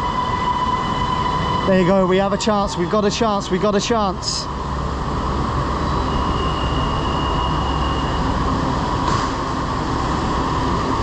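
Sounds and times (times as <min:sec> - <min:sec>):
subway train rumble and hiss: 0:00.0 - 0:11.0
thin high train whine: 0:00.0 - 0:11.0.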